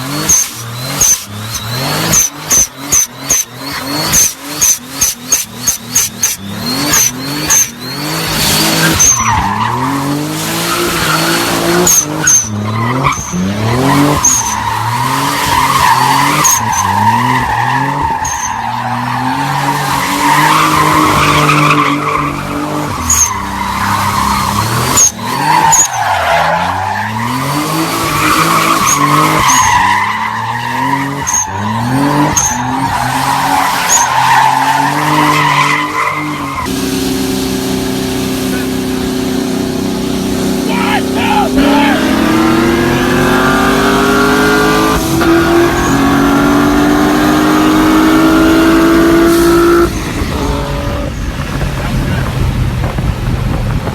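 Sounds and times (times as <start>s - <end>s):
tyres squealing: 0.0s - 36.7s, 40.5s - 51.1s
car engine revving: 0.0s - 53.9s.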